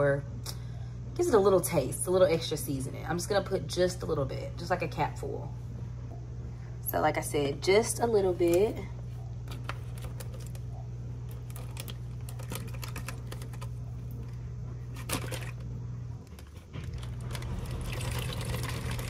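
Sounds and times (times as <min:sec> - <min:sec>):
dishwasher humming: 0:00.0 - 0:19.0.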